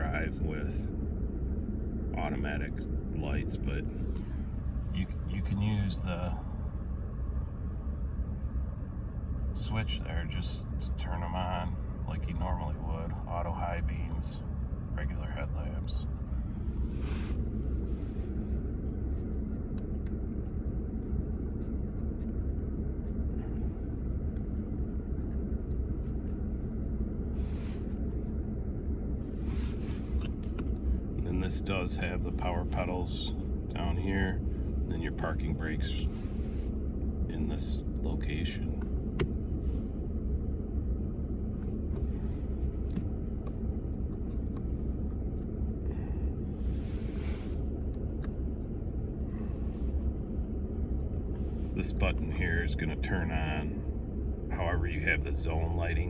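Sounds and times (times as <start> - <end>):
low vehicle rumble inside cab: 0.0 - 56.0
truck engine idling: 0.0 - 56.0.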